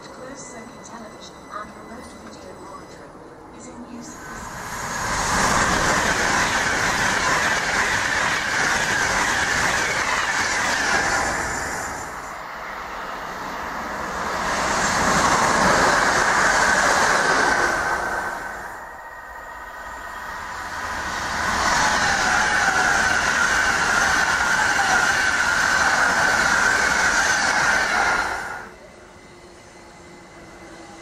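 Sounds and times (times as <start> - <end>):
train wheels on rails: 3.7 - 31.0.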